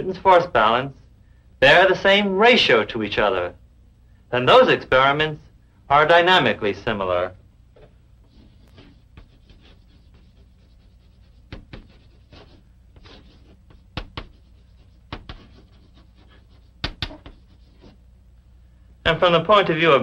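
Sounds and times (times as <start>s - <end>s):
film soundtrack hum and hiss: 0.0s - 20.0s.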